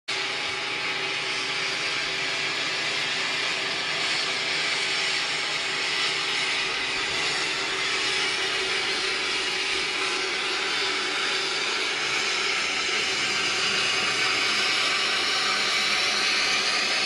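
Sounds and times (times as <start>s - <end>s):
combine harvester running: 0.2s - 17.0s.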